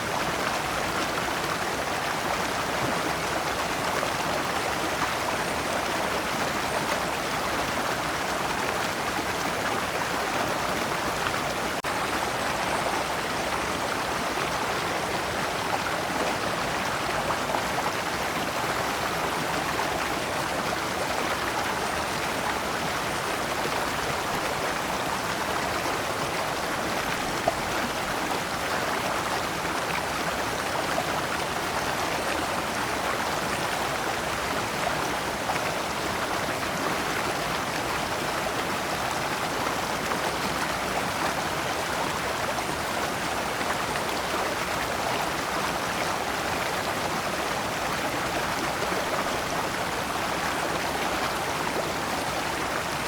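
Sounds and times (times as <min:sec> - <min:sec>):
stream flowing over stones: 0:00.0 - 0:53.0.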